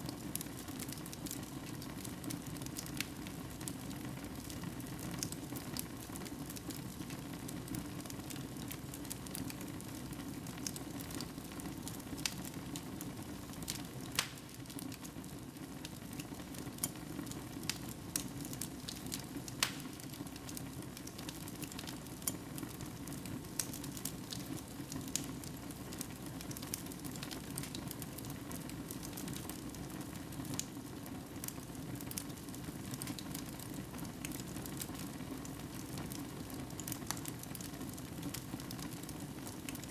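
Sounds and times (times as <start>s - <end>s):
wood fire crackling: 0.0s - 39.9s
fire pops and snaps: 0.1s - 30.8s, 31.4s - 39.9s
low rumble of flames: 0.1s - 39.9s.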